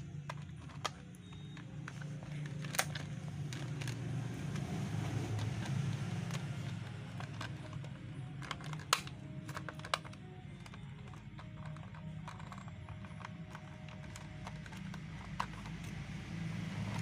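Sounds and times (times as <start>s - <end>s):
plastic toy car clicks: 0.0s - 17.0s.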